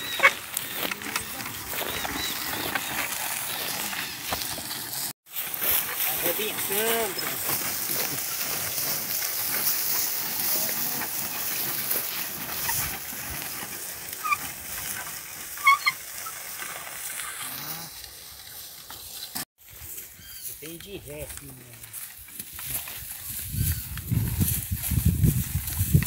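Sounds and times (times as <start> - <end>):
plough crackling through dry soil: 0.0 - 26.0.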